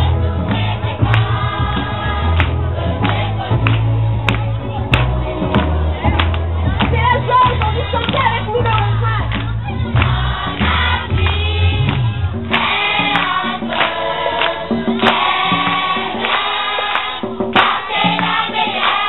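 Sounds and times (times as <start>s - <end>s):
young singers in chorus: 0.0s - 7.9s, 9.3s - 19.0s.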